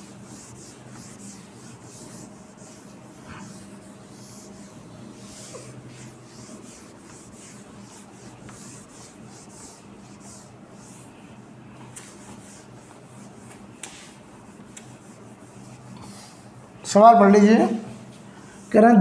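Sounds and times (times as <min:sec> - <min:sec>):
duster swishing on whiteboard: 0:00.0 - 0:17.4
steady low hum: 0:00.0 - 0:19.0.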